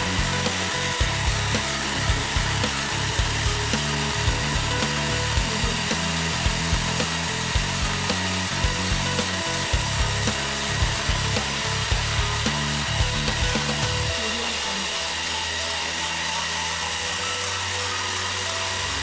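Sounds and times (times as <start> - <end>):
background music with bass line: 0.0 - 19.0
herb sieving machine rasping: 0.0 - 19.0.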